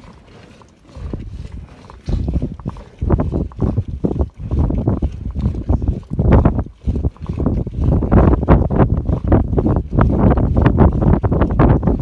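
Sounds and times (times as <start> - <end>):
wind buffeting microphone: 0.9 - 12.0.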